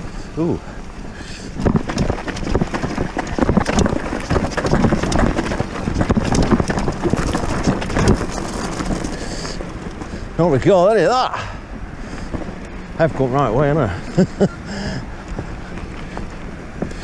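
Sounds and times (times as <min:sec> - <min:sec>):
wind buffeting microphone: 0:00.0 - 0:17.0
bike jolting and rattling: 0:01.0 - 0:17.0
tyres crunching on stones: 0:01.0 - 0:17.0.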